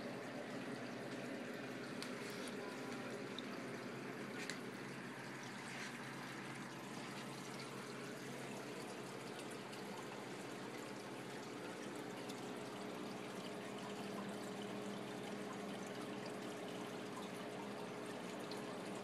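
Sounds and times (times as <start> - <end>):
low steady hum: 0.0 - 19.0
water trickling and splashing: 0.0 - 19.0.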